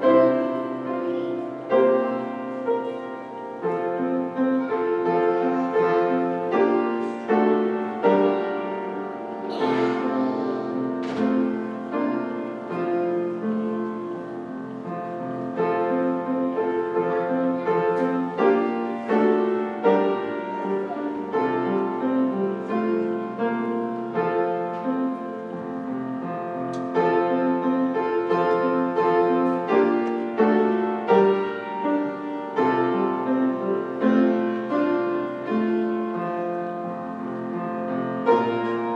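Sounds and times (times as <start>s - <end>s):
piano playing: 0.0s - 38.9s.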